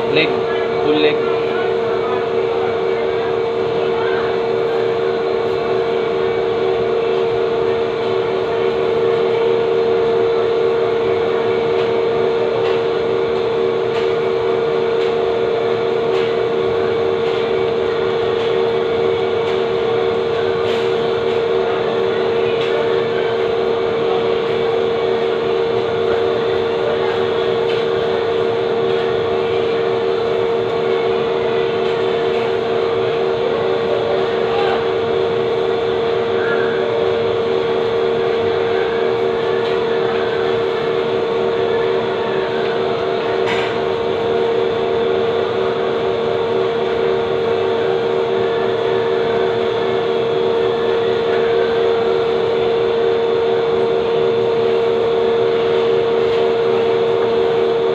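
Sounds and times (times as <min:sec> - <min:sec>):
machine humming drone: 0:00.0 - 0:57.9.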